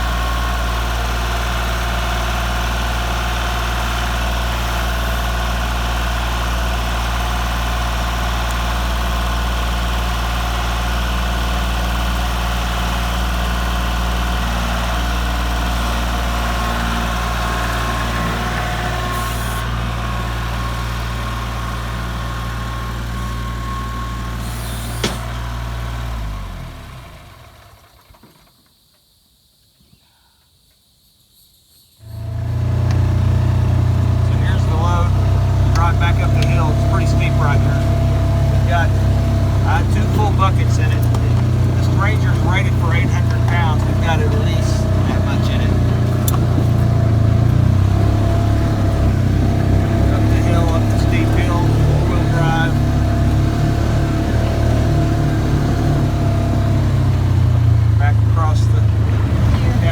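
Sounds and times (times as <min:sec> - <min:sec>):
vehicle engine idling: 0:00.0 - 0:28.5, 0:32.0 - 0:59.9.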